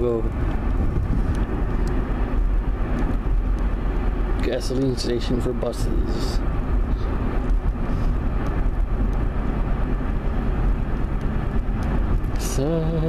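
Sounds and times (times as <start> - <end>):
road and engine rumble inside car: 0.0 - 13.0.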